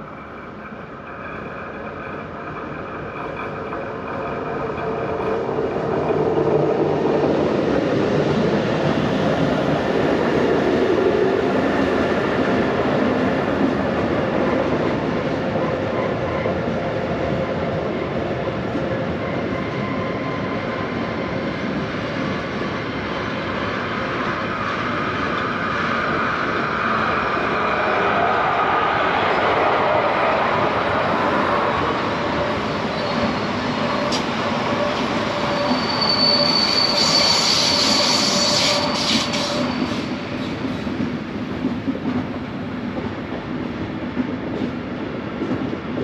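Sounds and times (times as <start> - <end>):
train running on rails: 0.0 - 46.0.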